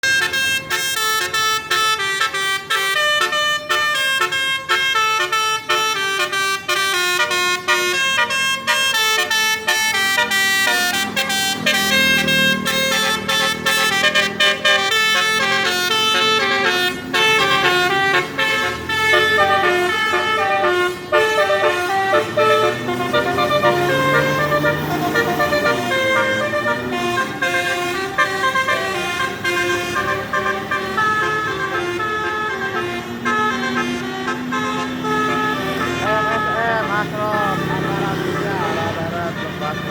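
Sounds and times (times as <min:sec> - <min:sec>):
multi-tone musical horn: 0:00.0 - 0:39.9
engine running: 0:01.9 - 0:39.9.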